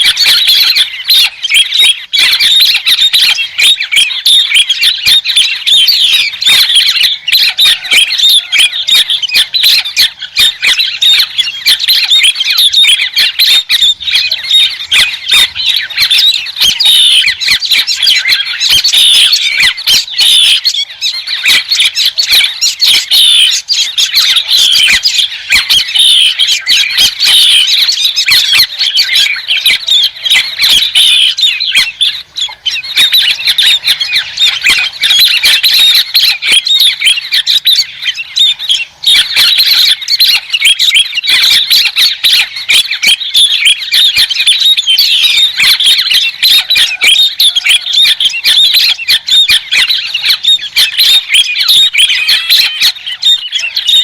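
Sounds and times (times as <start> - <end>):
birds chattering and squawking: 0.0 - 54.0.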